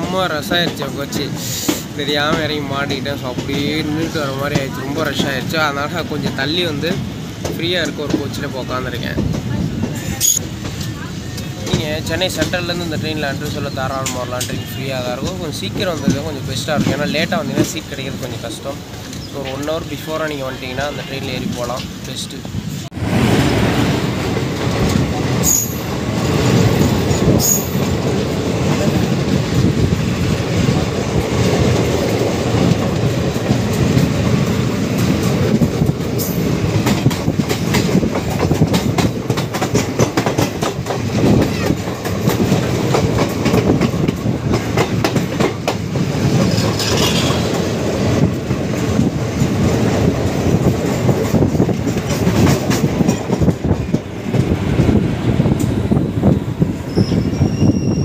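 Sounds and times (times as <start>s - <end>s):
wheels clicking over rail joints: 0.0s - 20.4s, 24.2s - 56.4s
train wheels rumbling on rail: 0.0s - 58.0s.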